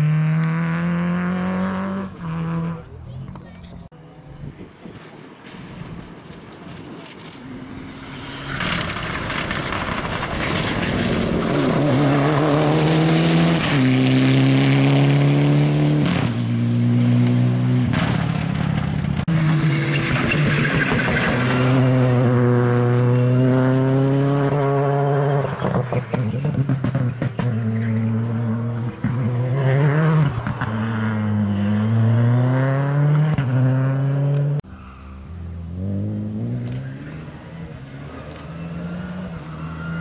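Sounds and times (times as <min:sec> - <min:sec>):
rally car engine accelerating: 0:00.0 - 0:03.4, 0:07.8 - 0:34.6, 0:35.3 - 0:40.0.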